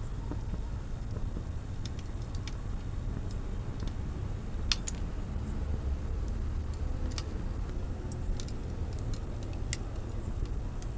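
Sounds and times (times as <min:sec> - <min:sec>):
wood fire crackling: 0:00.0 - 0:10.9.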